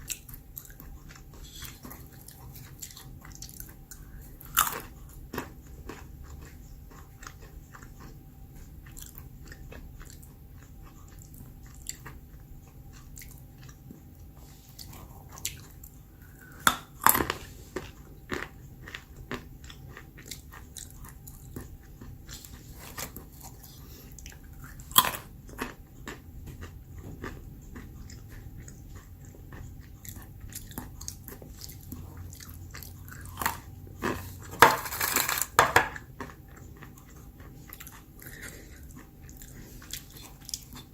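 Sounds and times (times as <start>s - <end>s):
chewing crunchy almonds: 0.0s - 40.9s.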